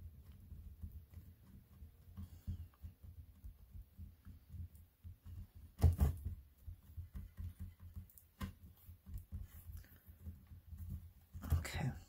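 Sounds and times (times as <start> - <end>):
hands pressing clay: 0.0 - 12.0.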